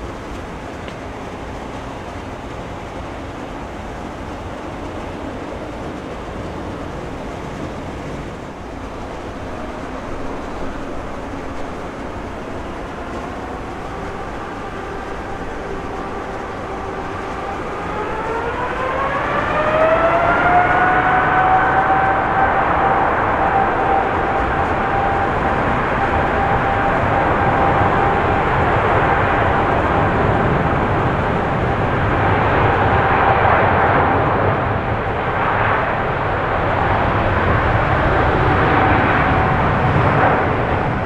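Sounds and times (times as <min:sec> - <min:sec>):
jet engines running: 0:00.0 - 0:41.0.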